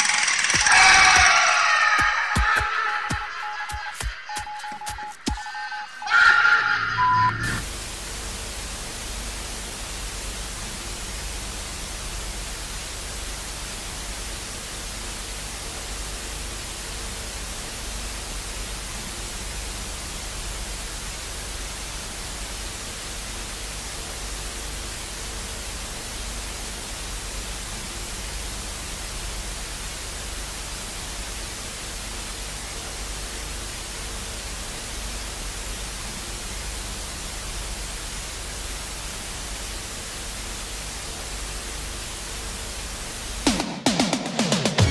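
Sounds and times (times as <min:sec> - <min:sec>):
television static hiss: 0:07.6 - 0:44.9.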